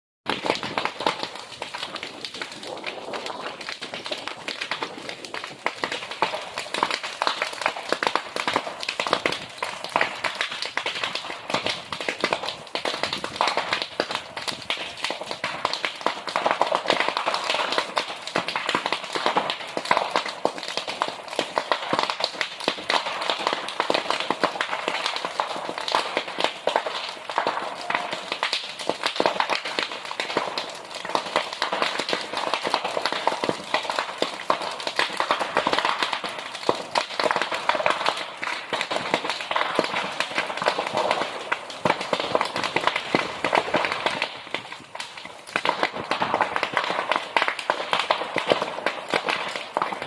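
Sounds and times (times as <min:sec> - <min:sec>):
bonfire crackling: 0:00.2 - 0:50.0.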